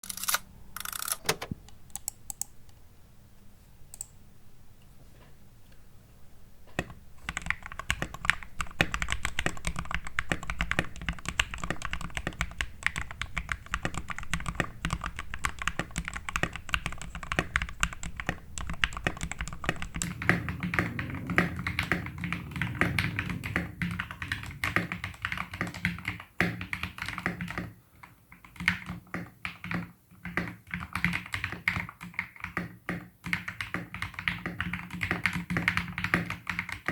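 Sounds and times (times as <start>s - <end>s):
mechanical keyboard typing: 0.0s - 2.5s, 6.8s - 36.9s.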